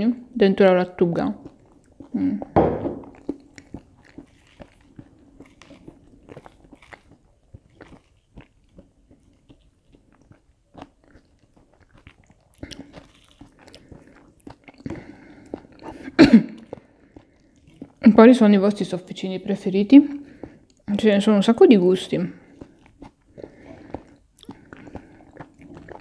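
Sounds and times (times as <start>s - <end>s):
mouth clicks and crunches: 0.8s - 26.0s
person chewing food: 1.0s - 26.0s.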